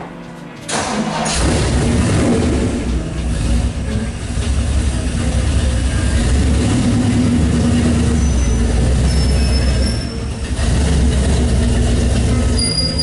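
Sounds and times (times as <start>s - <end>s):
car engine through side exhausts: 0.6s - 13.0s.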